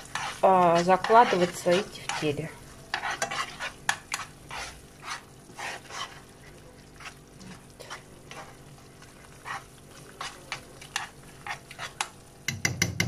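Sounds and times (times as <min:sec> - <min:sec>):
metal spoon scraping a pan: 0:00.0 - 0:12.2
oil sizzling: 0:00.0 - 0:13.0.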